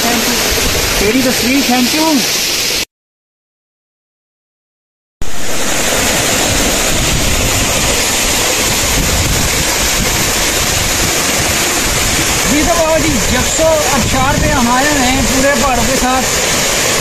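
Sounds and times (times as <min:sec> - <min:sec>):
water streaming over stone: 0:00.0 - 0:02.9, 0:05.2 - 0:17.0
waterfall rushing: 0:00.0 - 0:02.9, 0:05.2 - 0:17.0.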